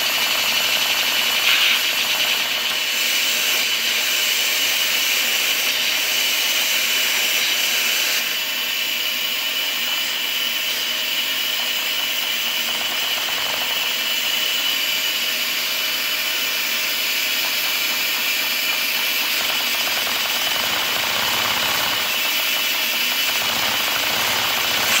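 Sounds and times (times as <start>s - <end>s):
shop vacuum whining: 0.0s - 25.0s.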